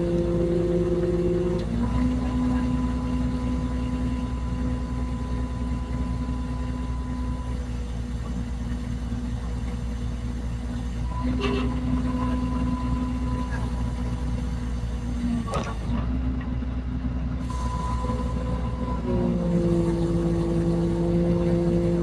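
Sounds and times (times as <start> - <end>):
engine rumbling: 0.0 - 22.0.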